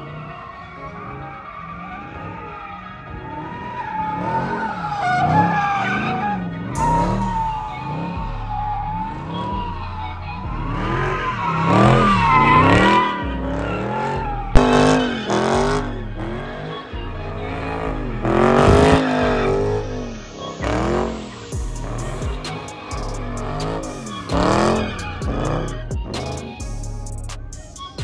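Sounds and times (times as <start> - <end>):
car engine revving: 0.0 - 28.0
tires squealing: 0.0 - 28.0.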